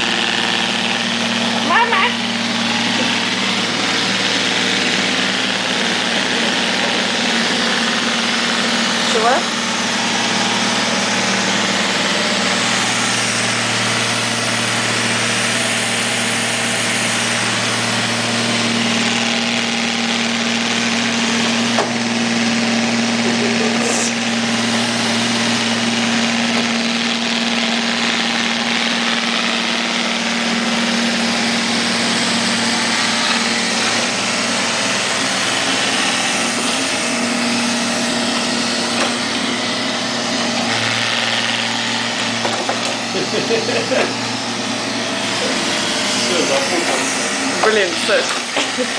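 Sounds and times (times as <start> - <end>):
robot vacuum cleaner whirring: 0.0 - 48.9.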